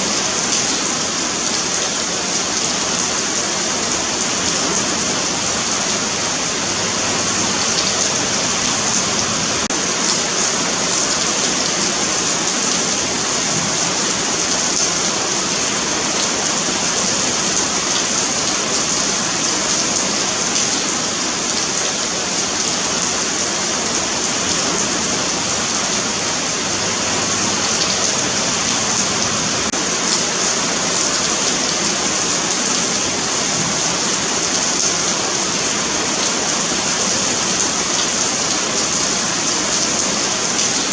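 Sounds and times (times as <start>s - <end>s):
rain on concrete pavement: 0.0s - 40.9s.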